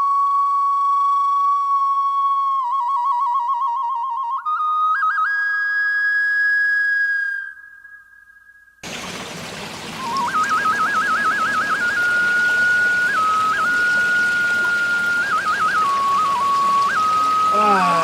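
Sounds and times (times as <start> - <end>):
solo flute melody: 0.0 - 8.7, 10.0 - 18.0.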